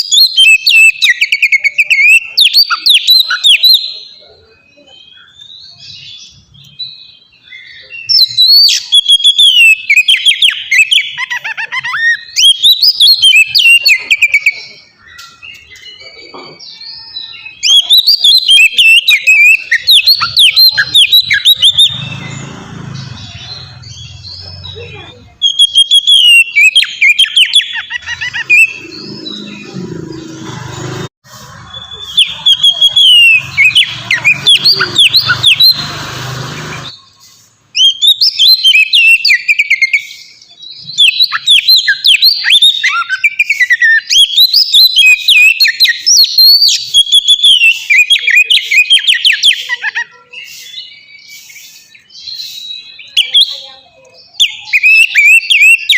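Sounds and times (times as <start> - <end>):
bird singing whistled trills: 0.0 - 29.8, 31.4 - 35.9, 36.8 - 55.9.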